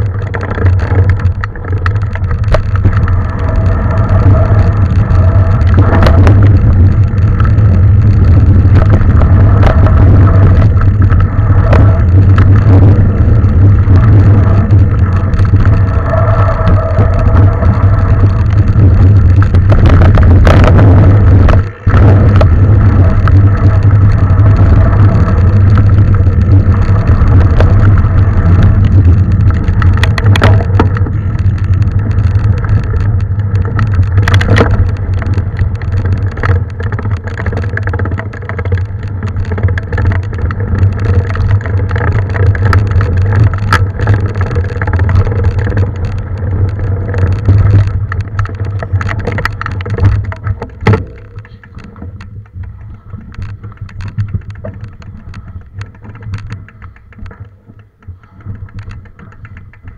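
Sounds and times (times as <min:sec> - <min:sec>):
bike knocks and rattles: 0:00.0 - 0:59.9
low rumble: 0:00.0 - 0:59.9
tyre noise: 0:00.0 - 0:59.9
wind rush: 0:00.0 - 0:59.9.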